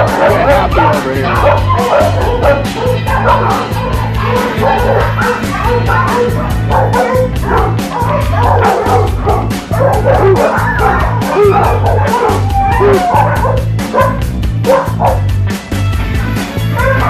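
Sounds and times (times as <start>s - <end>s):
dogs barking and yipping: 0.0s - 15.5s, 16.1s - 17.0s
music with steady beat: 0.0s - 17.0s.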